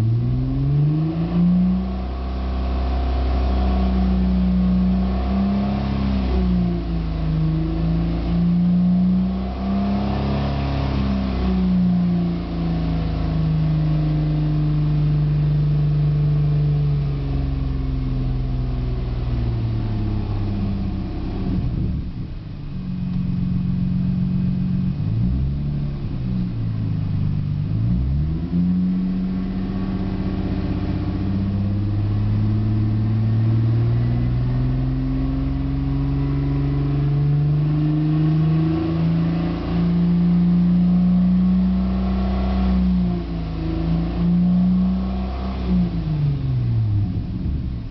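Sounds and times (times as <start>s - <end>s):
car engine exhaust accelerating: 0.0s - 47.9s.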